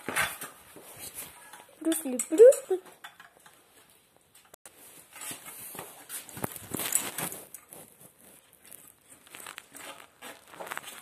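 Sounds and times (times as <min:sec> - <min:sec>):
objects being handled: 0:00.0 - 0:11.0.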